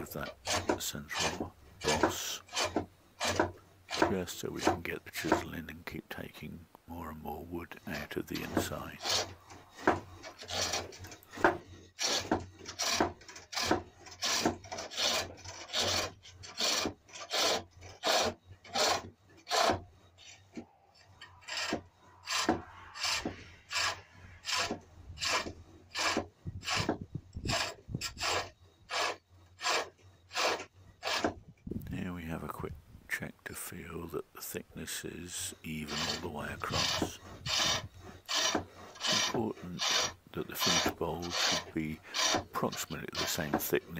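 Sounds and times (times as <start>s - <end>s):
turning tool scraping wood: 0.0s - 43.9s.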